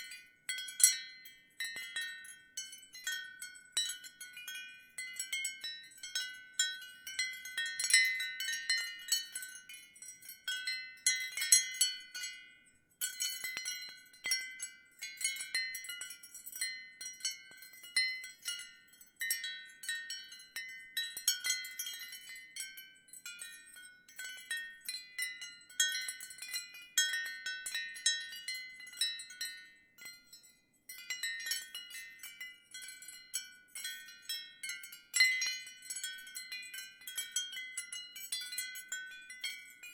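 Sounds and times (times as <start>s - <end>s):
ceramic wind chime tinkling: 0.0s - 39.9s.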